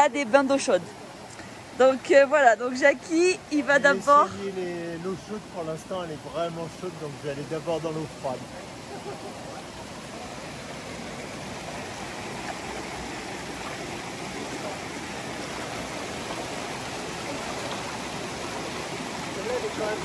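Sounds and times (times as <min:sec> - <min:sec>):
river water running: 0:00.0 - 0:20.0.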